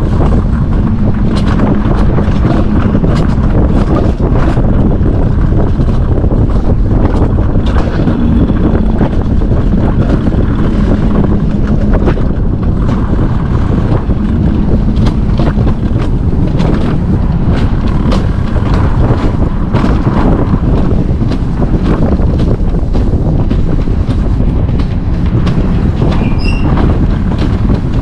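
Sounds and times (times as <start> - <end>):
sharp clicks and rattles: 0.0 - 28.0
wheels rumbling on steel rails: 0.0 - 28.0
wind rushing over microphone: 0.0 - 28.0.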